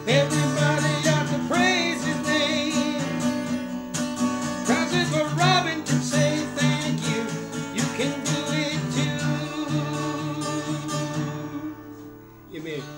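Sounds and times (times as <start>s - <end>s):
man and woman singing: 0.0s - 3.3s, 4.7s - 12.0s
acoustic guitar strumming: 0.0s - 12.9s.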